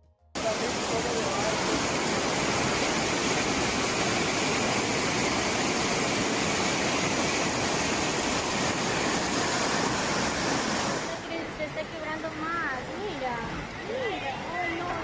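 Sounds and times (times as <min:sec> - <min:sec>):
floodwater rushing: 0:00.4 - 0:15.0.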